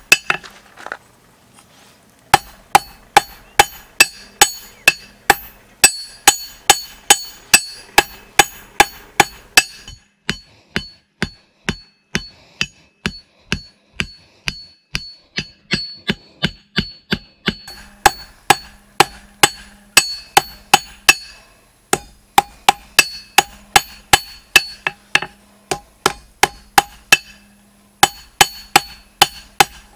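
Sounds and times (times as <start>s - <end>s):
hammer striking metal on anvil: 0.0s - 0.4s, 2.4s - 29.9s.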